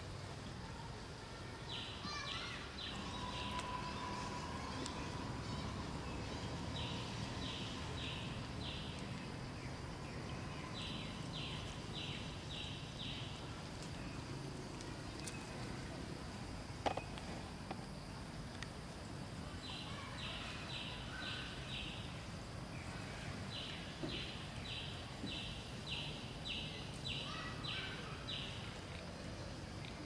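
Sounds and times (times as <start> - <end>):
forest ambience: 0.0 - 30.0.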